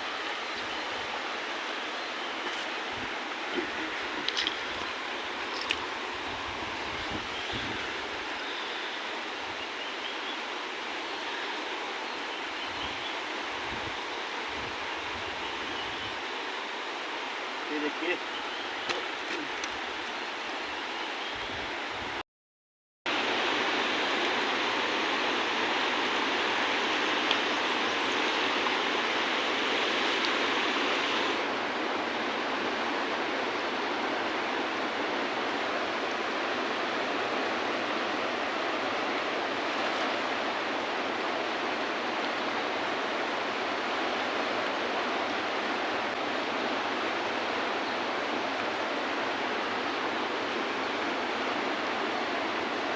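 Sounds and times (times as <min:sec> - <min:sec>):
river water rushing: 0:00.0 - 0:22.2, 0:23.1 - 0:52.9.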